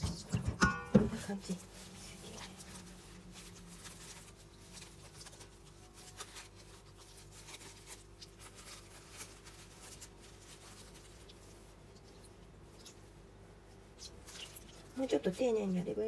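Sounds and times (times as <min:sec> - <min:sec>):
low steady hum: 0:00.0 - 0:16.0
plastic glove rustling: 0:00.0 - 0:16.0.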